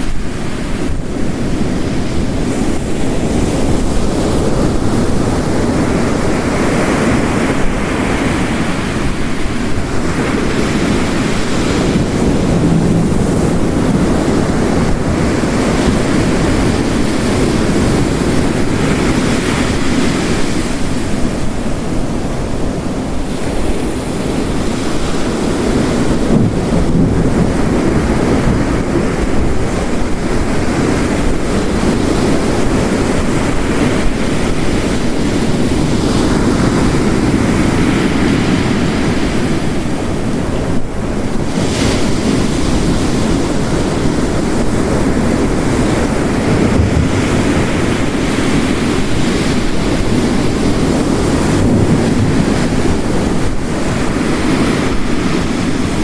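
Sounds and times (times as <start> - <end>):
heavy rain: 0.0 - 56.0
ocean waves crashing: 0.0 - 56.0.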